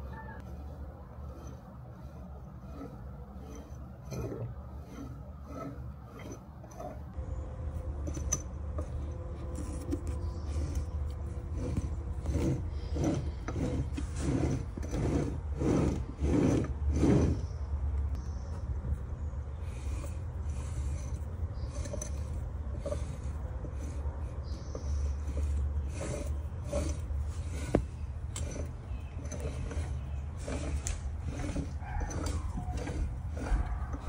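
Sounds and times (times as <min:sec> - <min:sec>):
engine gears meshing and rasping: 0:00.0 - 0:34.0.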